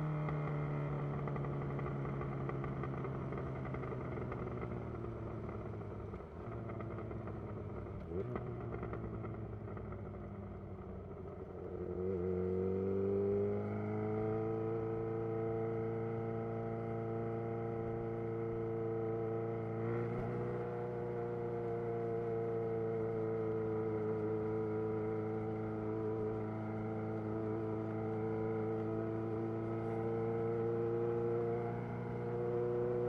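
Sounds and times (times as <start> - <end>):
motorcycle engine running steadily: 0.0 - 33.0.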